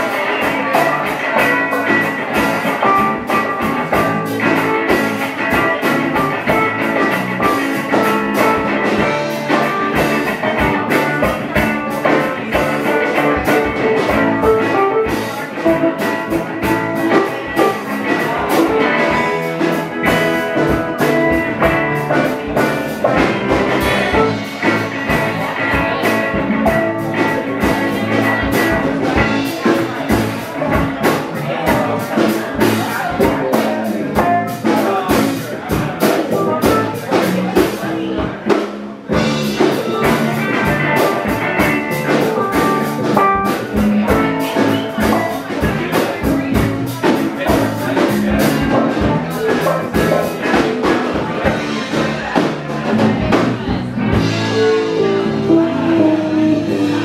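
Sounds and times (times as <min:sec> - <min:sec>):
drum kit beat: 0:00.0 - 0:57.0
electric guitars: 0:00.0 - 0:57.0.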